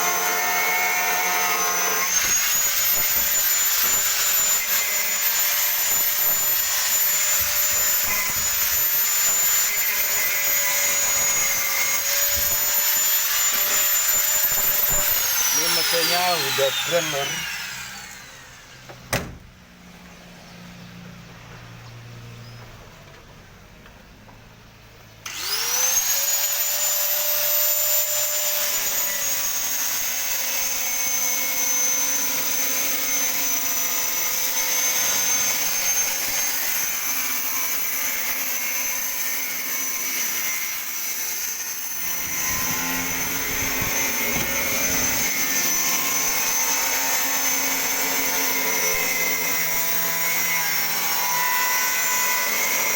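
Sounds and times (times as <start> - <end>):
angle grinder whining: 0.0 - 19.2, 25.2 - 52.9
low workshop hum: 0.0 - 52.9.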